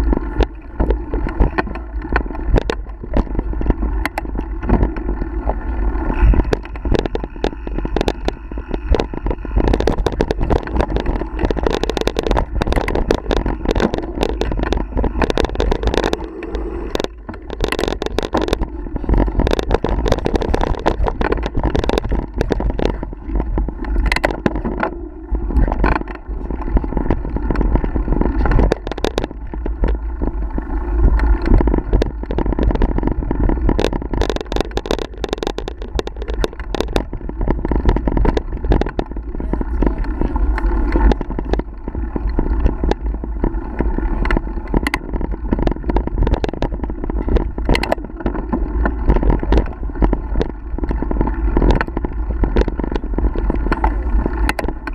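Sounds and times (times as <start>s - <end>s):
bike clattering over rocks: 0.0s - 54.9s
rumble of wind and vibration: 0.0s - 54.9s.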